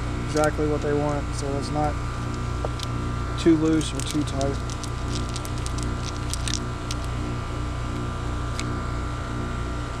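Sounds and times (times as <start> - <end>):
machine hum with pulsing drone: 0.0 - 10.0.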